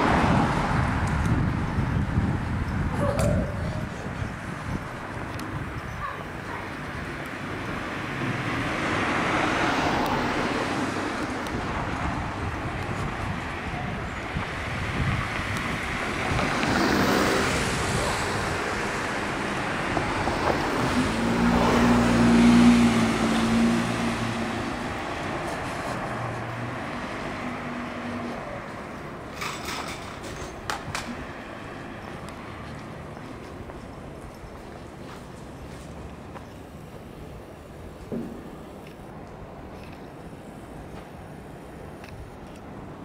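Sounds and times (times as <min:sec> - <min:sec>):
motor vehicles passing: 0:00.0 - 0:43.0.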